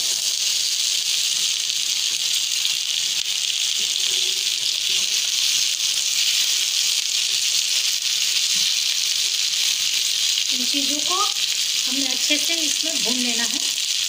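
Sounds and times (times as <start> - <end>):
vegetables sizzling in hot fat: 0.0 - 14.0.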